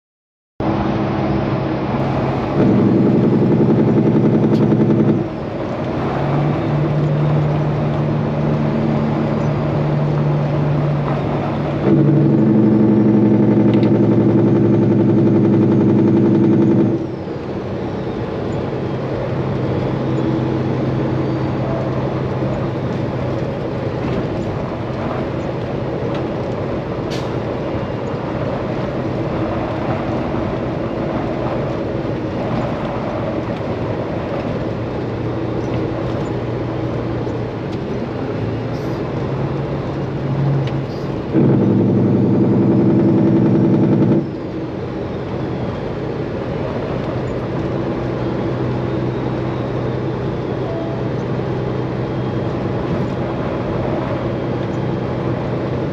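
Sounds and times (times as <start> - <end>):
truck diesel engine and exhaust: 0.6 - 55.9.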